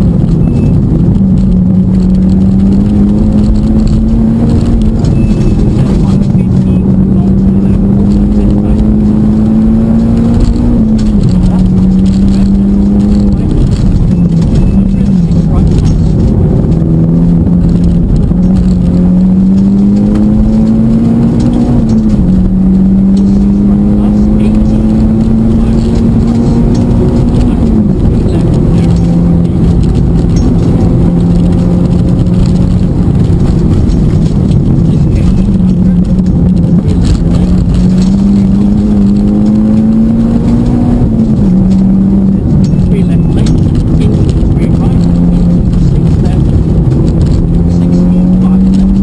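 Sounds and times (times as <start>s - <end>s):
car engine running under load: 0.0s - 49.0s
road and tyre noise: 0.0s - 49.0s.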